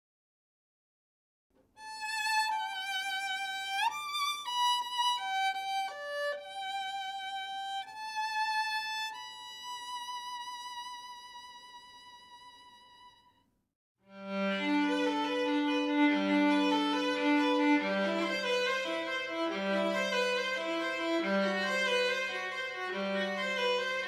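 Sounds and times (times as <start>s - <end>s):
solo violin melody: 1.8s - 13.3s, 14.1s - 24.0s.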